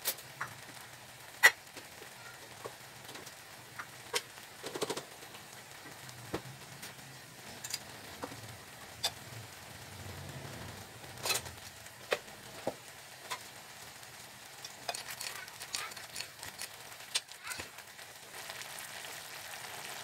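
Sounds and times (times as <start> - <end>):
small clicks and crackles: 0.0 - 20.0.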